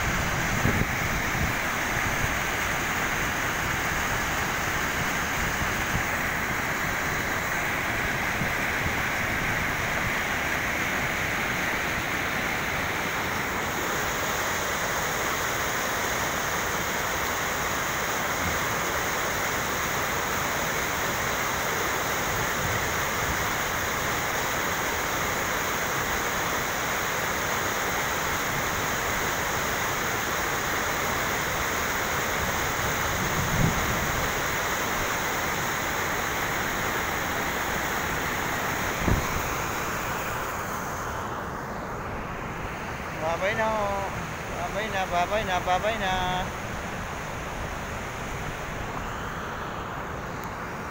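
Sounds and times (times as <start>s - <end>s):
river water over a weir: 0.0s - 50.9s.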